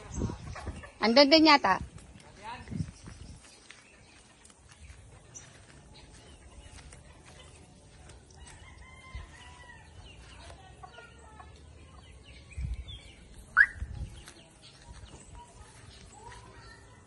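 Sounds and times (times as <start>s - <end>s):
birds chirping and clucking: 0.0s - 17.0s.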